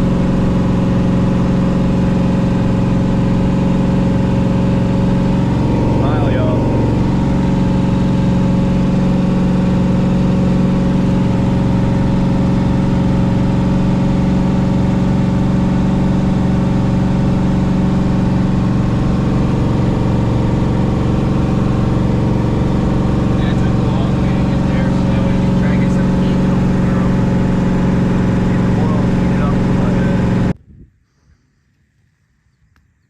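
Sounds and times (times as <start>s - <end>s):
car engine running steadily: 0.0s - 30.6s.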